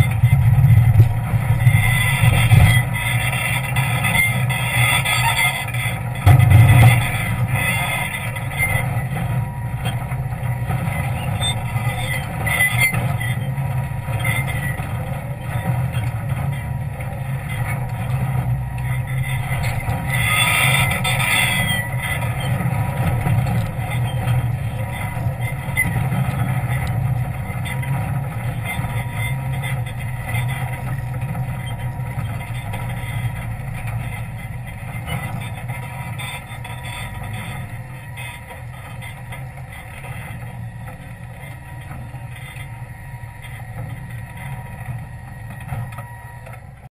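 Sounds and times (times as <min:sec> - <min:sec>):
engine running under load: 0:00.0 - 0:46.9.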